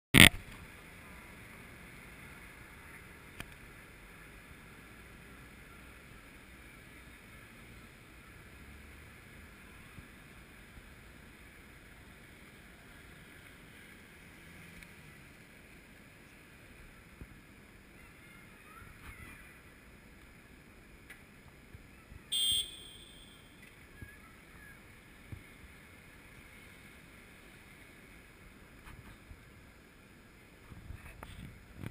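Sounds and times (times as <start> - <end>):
distant traffic hiss: 0.5 - 31.8.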